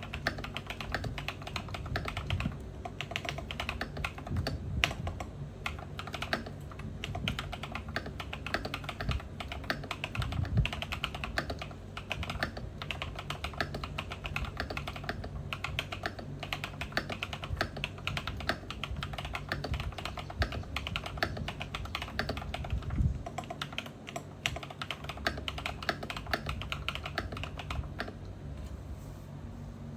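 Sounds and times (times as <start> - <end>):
fast typing on clicky keyboard: 0.0 - 28.3
steady low hum: 0.0 - 29.9.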